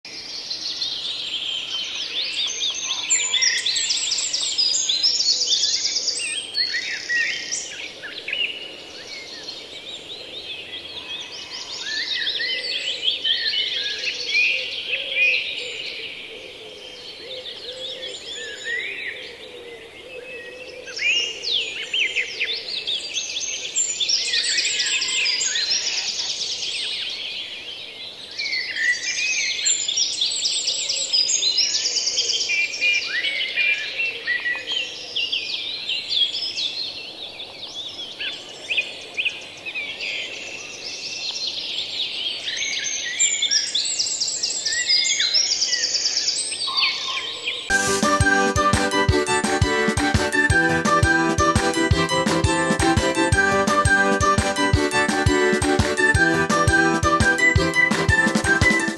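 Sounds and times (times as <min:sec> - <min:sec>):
songbirds chirping and twittering: 0:00.0 - 0:47.7.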